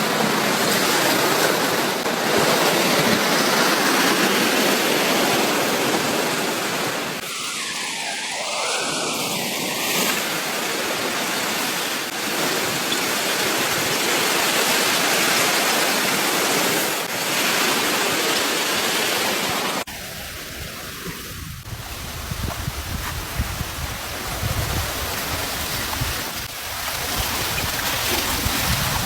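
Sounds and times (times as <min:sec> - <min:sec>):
fast-flowing water rushing: 0:00.0 - 0:21.0, 0:21.7 - 0:29.0.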